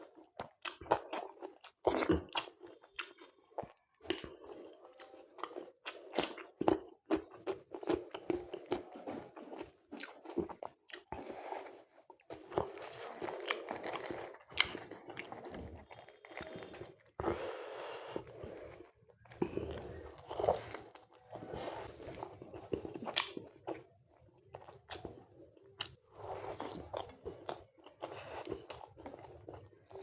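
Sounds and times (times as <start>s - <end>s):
chewing and crunching food: 0.0s - 30.0s.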